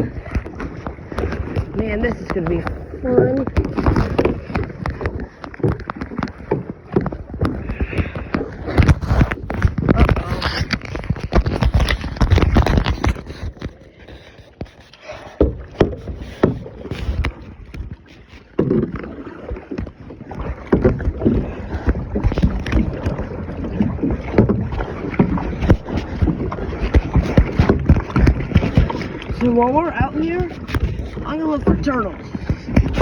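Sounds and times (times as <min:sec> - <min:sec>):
paddle strokes in water: 0:00.0 - 0:33.0.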